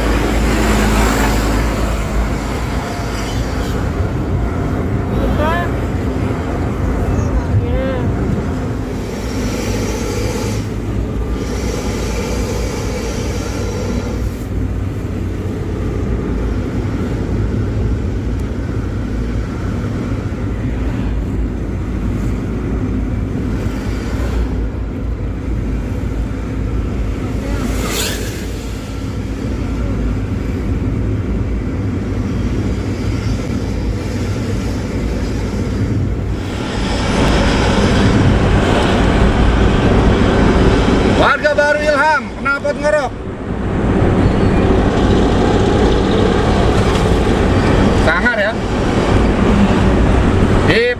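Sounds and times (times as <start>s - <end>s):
bus engine rumble: 0.0s - 50.9s
deep growling exhaust: 0.0s - 50.9s.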